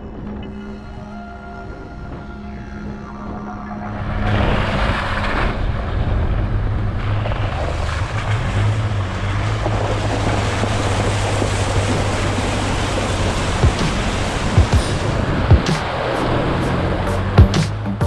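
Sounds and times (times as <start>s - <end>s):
vehicle engine running low: 0.0s - 18.0s
wind noise: 0.0s - 18.0s
wheels churning water: 1.4s - 17.8s.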